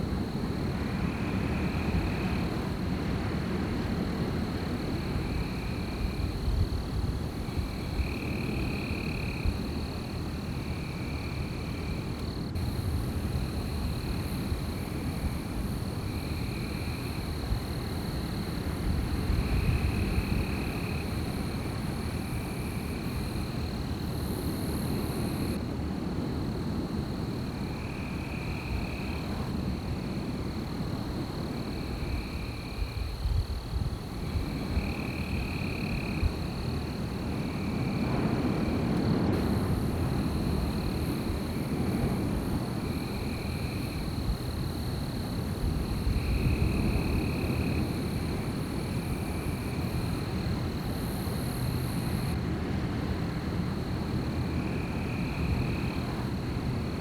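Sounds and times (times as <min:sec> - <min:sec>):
wind gusts: 0:00.0 - 0:57.0.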